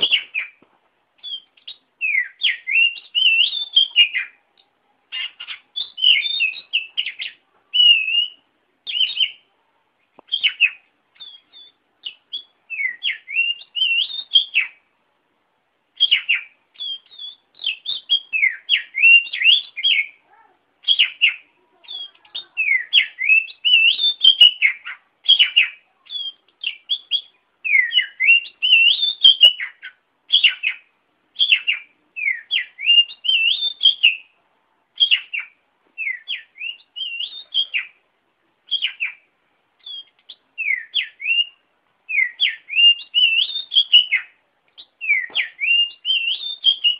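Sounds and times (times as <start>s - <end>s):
bird singing whistled phrases: 1.2s - 4.4s, 5.1s - 9.5s, 10.3s - 14.8s, 16.0s - 20.2s, 20.8s - 34.3s, 35.0s - 38.0s, 38.7s - 46.9s.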